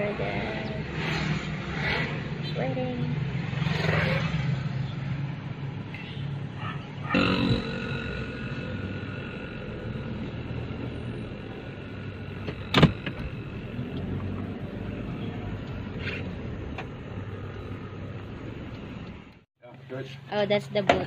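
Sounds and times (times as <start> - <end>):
car engine running: 0.0 - 19.4.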